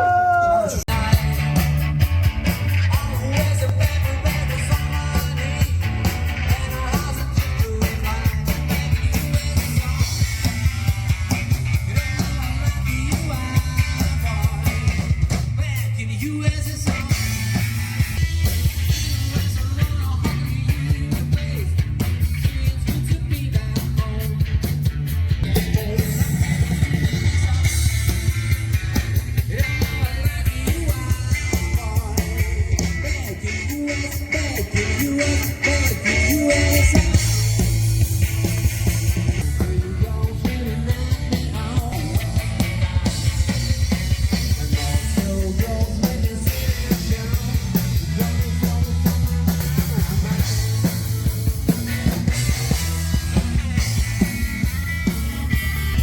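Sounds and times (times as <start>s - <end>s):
person singing: 0.0s - 1.9s, 2.5s - 17.6s, 18.8s - 24.7s, 25.4s - 28.3s, 29.3s - 51.2s
bass guitar: 0.0s - 56.0s
drum kit beat: 0.0s - 56.0s
electric guitars: 0.0s - 56.0s
live rock band playing: 0.0s - 56.0s.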